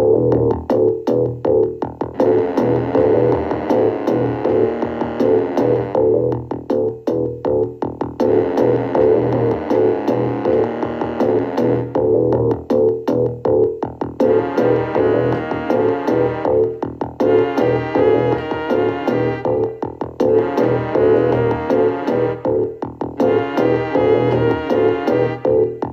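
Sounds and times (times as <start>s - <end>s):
synthesizer chords: 0.0s - 25.9s
steady percussive beat: 0.2s - 25.9s.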